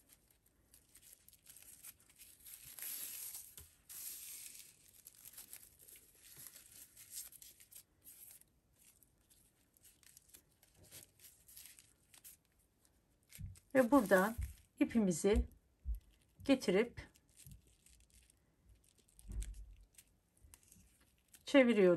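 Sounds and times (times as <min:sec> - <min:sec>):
paper cord rustling: 0:00.0 - 0:21.5.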